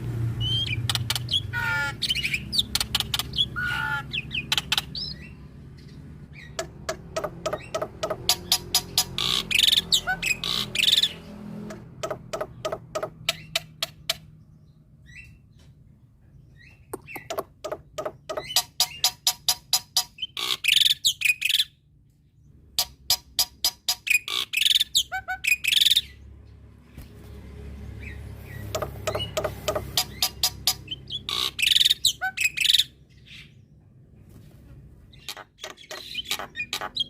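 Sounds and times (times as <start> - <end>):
harsh squawky bird calls: 0.4 - 15.6, 16.5 - 21.8, 22.7 - 26.2, 28.0 - 33.6, 35.1 - 37.0.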